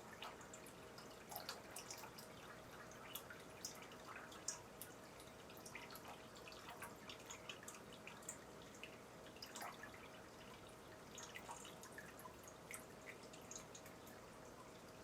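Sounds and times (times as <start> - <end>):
faint steady hum: 0.0 - 15.0
water dripping and trickling: 0.0 - 15.0.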